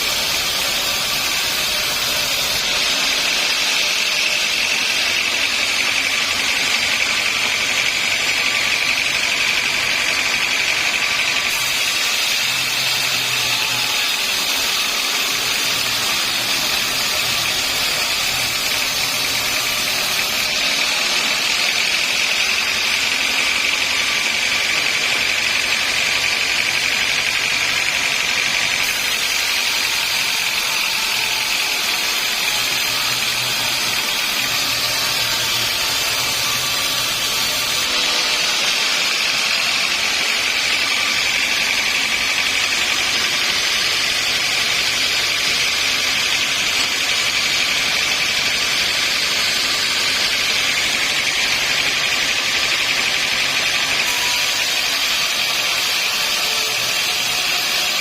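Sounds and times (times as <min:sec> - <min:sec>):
engine noise: 0:00.0 - 0:56.1
saw whining through log: 0:00.0 - 0:58.0.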